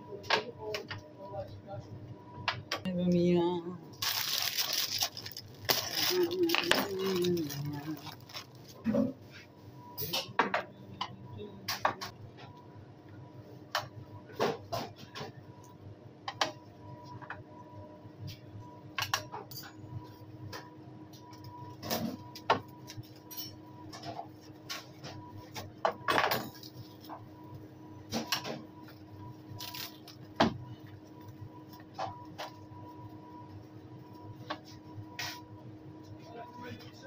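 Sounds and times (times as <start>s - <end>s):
electrical hum of kitchen equipment: 0.0s - 37.0s.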